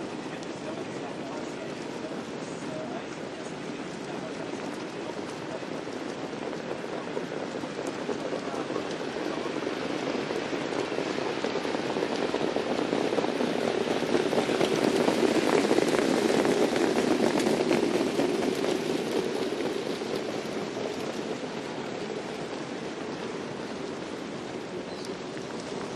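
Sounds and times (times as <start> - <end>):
massed hoofbeats on a track: 0.0 - 25.9
sulky wheels on the track: 0.0 - 25.9.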